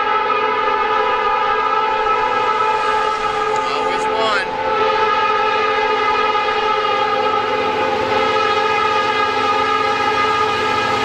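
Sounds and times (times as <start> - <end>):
locomotive air horn: 0.0 - 11.0.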